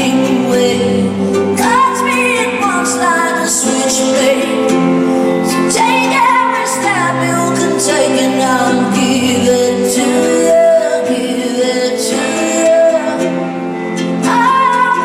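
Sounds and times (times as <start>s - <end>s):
woman singing: 0.0s - 13.5s, 14.2s - 15.0s
pop-rock band playing: 0.0s - 15.0s.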